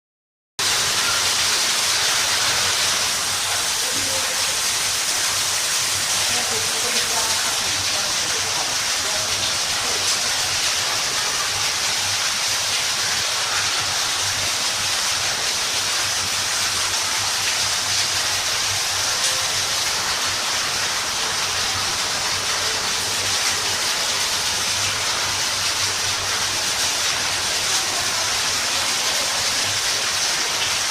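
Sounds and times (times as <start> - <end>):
water pouring down a waterfall: 0.6 - 30.9.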